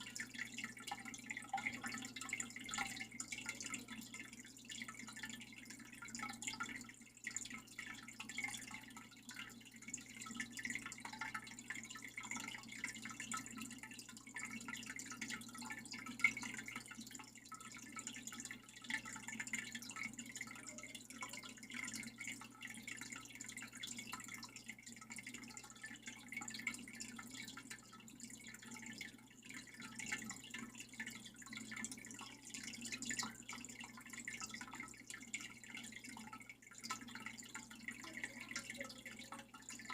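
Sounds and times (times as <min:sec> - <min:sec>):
low steady hum: 0:00.0 - 0:39.9
water dripping and trickling: 0:00.0 - 0:39.9.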